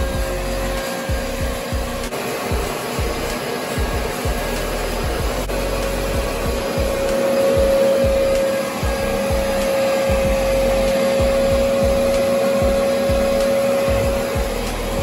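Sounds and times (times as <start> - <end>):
rushing air: 0.0 - 15.0
vacuum cleaner motor whine: 0.0 - 15.0.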